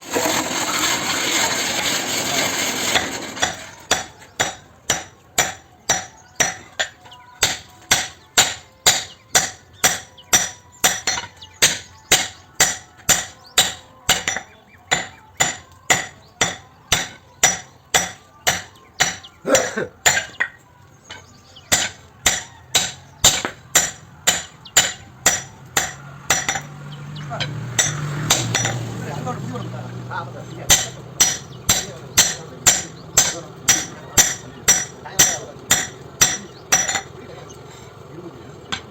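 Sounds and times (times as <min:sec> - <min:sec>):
hammer striking hot metal: 0:00.2 - 0:29.3, 0:30.6 - 0:37.9.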